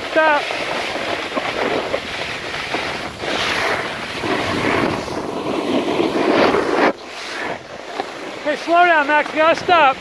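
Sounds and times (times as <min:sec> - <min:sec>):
snowboard scraping over snow: 0:00.0 - 0:10.0
wind rushing across microphone: 0:00.0 - 0:10.0.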